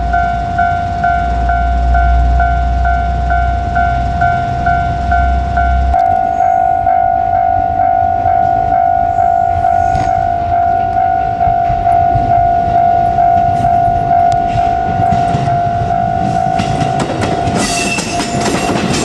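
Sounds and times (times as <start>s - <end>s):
level-crossing warning bell: 0.0s - 19.0s
passing train rumbling: 0.0s - 19.0s.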